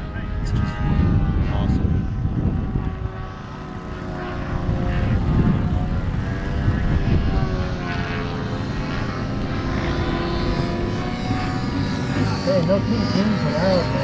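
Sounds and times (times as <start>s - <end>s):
model plane propeller droning: 0.0s - 14.0s.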